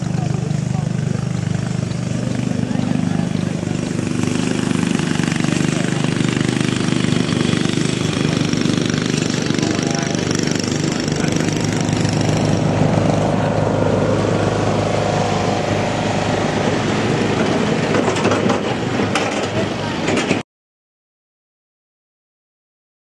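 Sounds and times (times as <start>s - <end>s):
small engine running: 0.0s - 20.4s.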